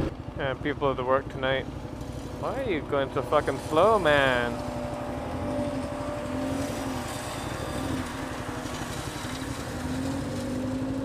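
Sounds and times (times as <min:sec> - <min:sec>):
air and road noise: 0:00.0 - 0:11.0
motorcycle engine at low revs: 0:00.0 - 0:11.0.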